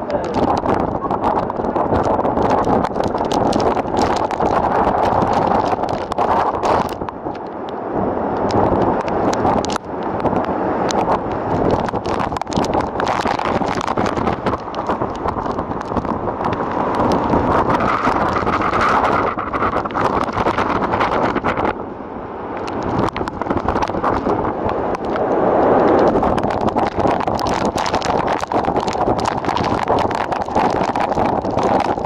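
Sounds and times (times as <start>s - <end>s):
rain: 0.0s - 32.0s
wind roaring and buffeting microphone: 0.0s - 32.0s.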